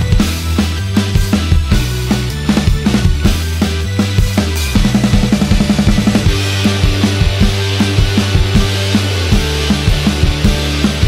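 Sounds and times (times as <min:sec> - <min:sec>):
fast driving drum beat: 0:00.0 - 0:11.0
sustained bass notes: 0:00.0 - 0:11.0.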